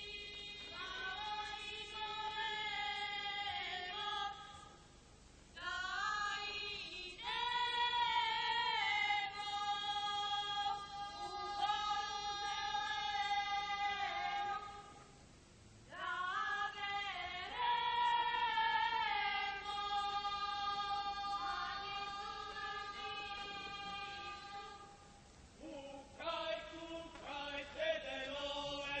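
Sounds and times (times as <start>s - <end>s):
women's choir singing folk song: 0.0s - 4.7s, 5.6s - 14.9s, 16.0s - 25.0s, 25.7s - 29.0s.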